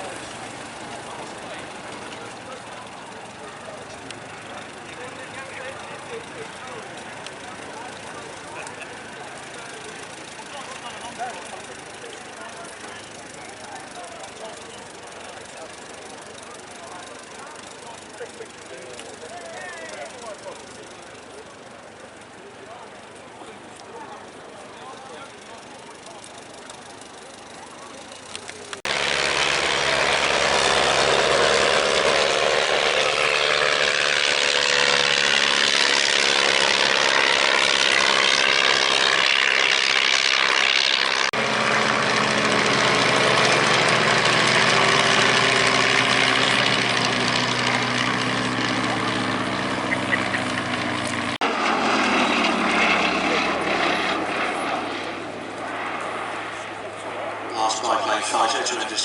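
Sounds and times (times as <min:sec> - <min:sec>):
propeller aircraft flying past: 0:00.0 - 0:59.0.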